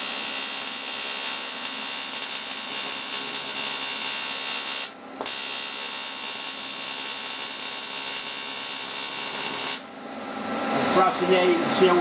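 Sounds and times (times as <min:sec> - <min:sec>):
welding arc hissing and buzzing: 0:00.0 - 0:09.9.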